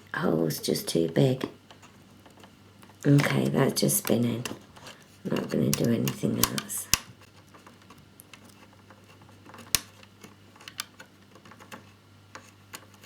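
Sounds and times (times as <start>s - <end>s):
plastic parts being handled: 1.7s - 13.0s.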